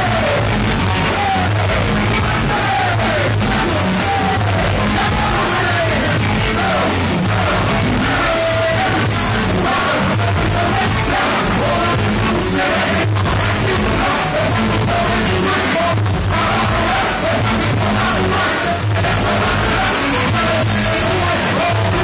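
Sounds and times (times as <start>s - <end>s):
live band music: 0.0s - 22.0s
voices singing and yelling: 0.0s - 22.0s.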